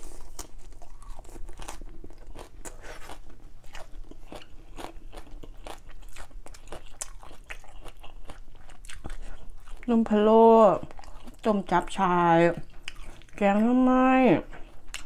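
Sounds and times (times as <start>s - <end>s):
person chewing leaves: 0.0s - 15.0s.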